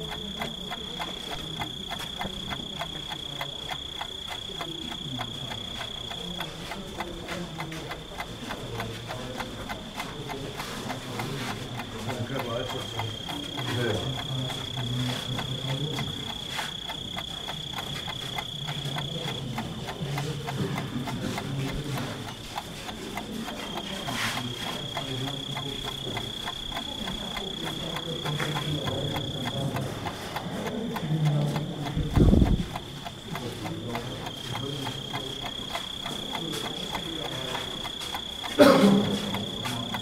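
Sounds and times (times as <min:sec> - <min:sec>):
murmur of voices: 0:00.0 - 0:40.0
crowd footsteps shuffling: 0:06.5 - 0:18.9, 0:19.7 - 0:40.0.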